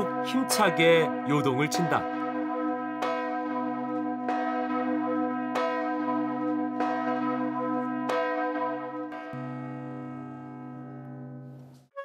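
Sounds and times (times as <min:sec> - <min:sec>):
church bell tolling: 0:00.0 - 0:11.7.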